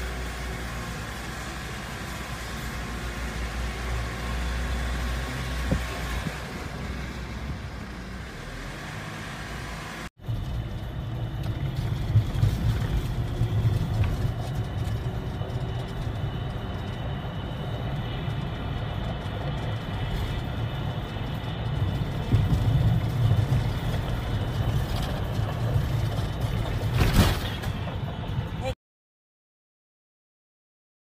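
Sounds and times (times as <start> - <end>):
vehicle engine and road noise: 0.0 - 28.8.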